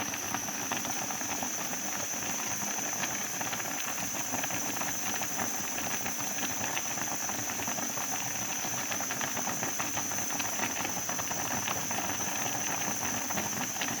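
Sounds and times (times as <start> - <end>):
bubbling rice crackling: 0.0 - 14.0.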